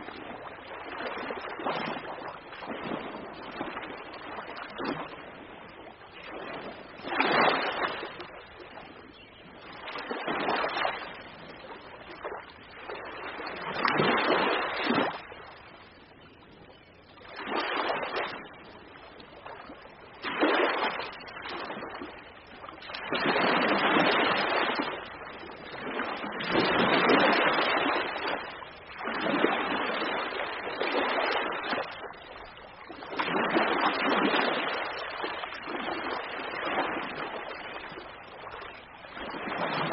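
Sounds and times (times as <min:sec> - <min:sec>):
ocean waves breaking: 0:00.0 - 0:08.9, 0:09.7 - 0:15.8, 0:17.2 - 0:39.9.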